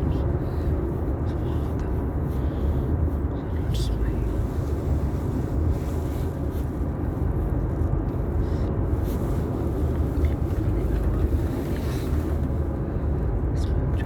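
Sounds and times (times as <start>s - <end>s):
car interior road rumble: 0.0s - 14.0s.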